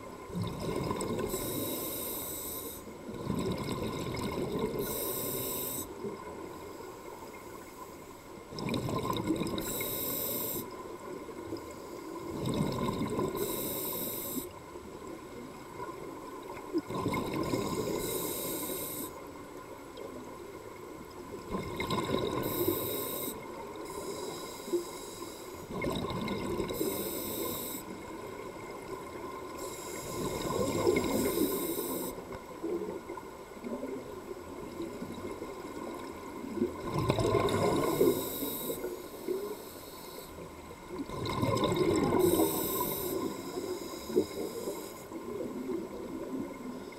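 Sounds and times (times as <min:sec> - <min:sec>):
exhaled bubbles gurgling underwater: 0:00.0 - 0:46.9.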